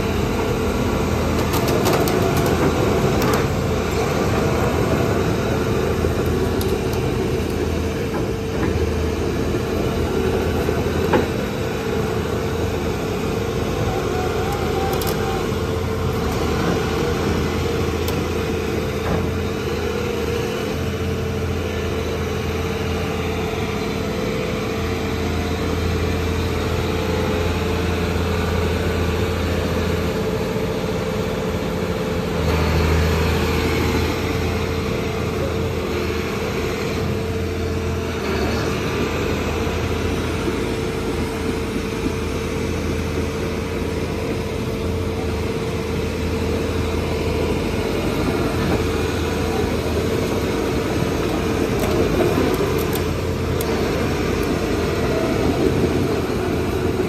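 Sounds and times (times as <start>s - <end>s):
excavator diesel engine running: 0.0s - 57.0s
hydraulic whine: 0.0s - 57.0s.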